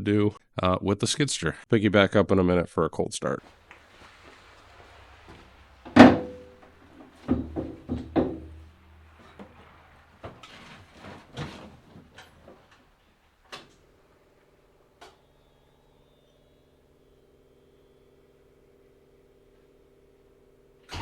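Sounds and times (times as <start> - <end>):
faint steady hum: 3.4 - 21.0.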